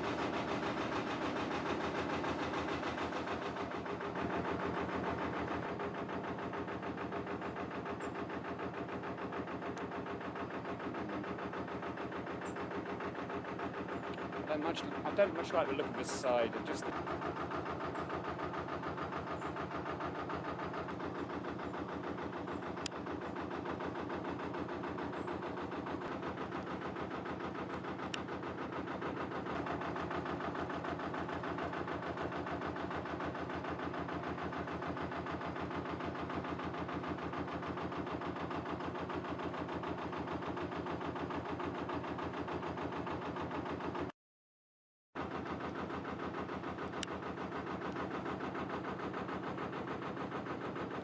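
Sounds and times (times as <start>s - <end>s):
boat engine chugging: 0.0s - 44.1s, 45.2s - 51.0s.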